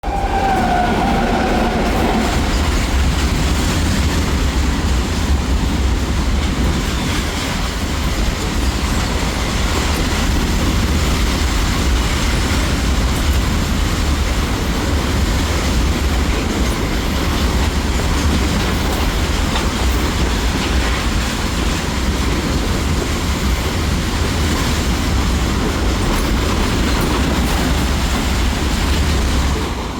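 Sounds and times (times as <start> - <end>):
train rumbling: 0.0 - 29.9.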